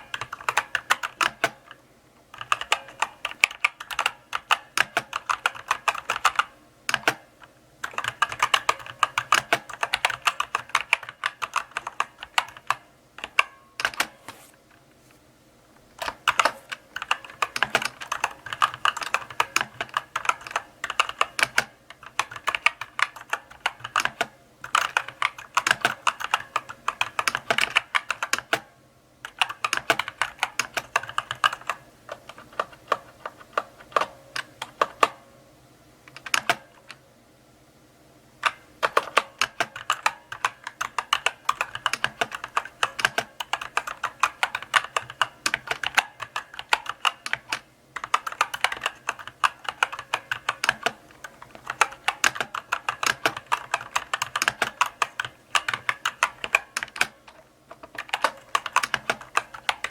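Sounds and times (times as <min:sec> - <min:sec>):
mechanical keyboard typing: 0:00.0 - 0:14.4, 0:16.0 - 0:35.2, 0:36.1 - 0:37.0, 0:38.4 - 0:59.9.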